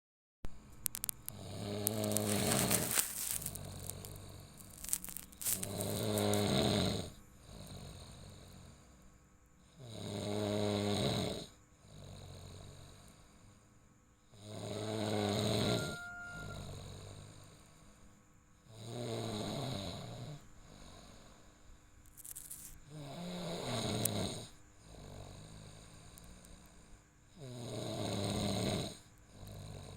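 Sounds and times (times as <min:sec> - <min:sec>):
person snoring: 0:01.0 - 0:08.9, 0:09.7 - 0:13.4, 0:14.3 - 0:17.7, 0:18.6 - 0:21.5, 0:22.2 - 0:26.6, 0:27.3 - 0:29.9
quiet breathing: 0:01.0 - 0:10.1, 0:11.4 - 0:29.9.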